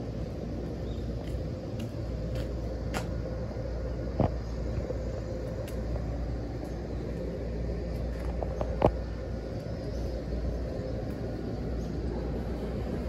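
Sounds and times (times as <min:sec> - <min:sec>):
electric train hum and rumble: 0:00.0 - 0:13.0.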